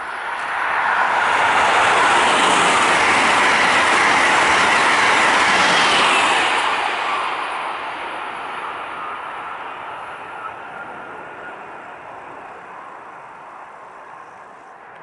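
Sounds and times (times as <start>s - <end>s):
train passing with rail noise: 0.0s - 15.0s.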